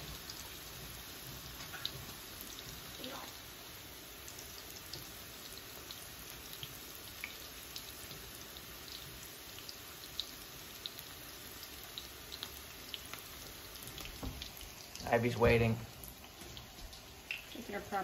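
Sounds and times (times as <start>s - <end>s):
mushrooms sizzling in hot oil: 0.0s - 18.0s.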